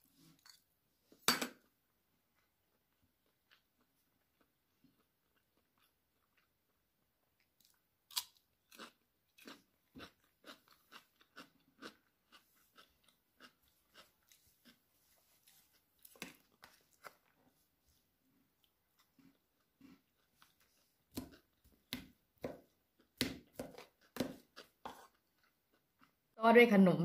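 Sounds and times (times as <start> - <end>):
crunchy chewing: 2.4 - 6.8, 7.4 - 17.7, 18.3 - 26.2.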